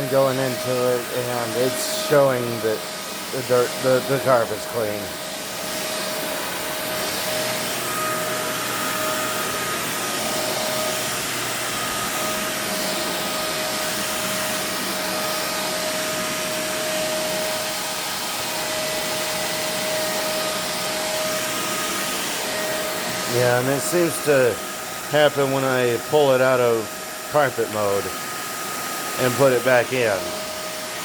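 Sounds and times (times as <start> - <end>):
suction rush: 0.0 - 31.0
vacuum cleaner motor whine: 0.0 - 31.0.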